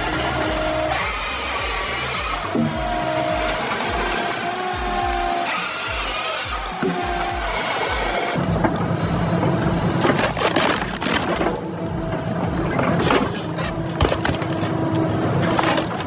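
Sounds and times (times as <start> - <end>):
heavy machine engine running: 0.0 - 16.0
wood cracking and splintering: 0.0 - 16.0.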